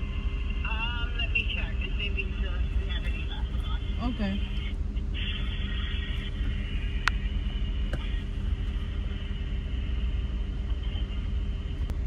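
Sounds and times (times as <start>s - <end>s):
car engine rumble inside car: 0.0s - 12.0s.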